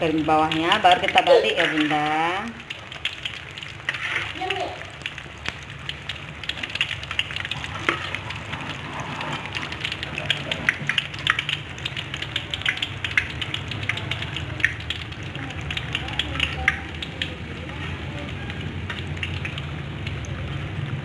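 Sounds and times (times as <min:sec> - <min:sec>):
oil crackling and popping: 0:00.0 - 0:21.0.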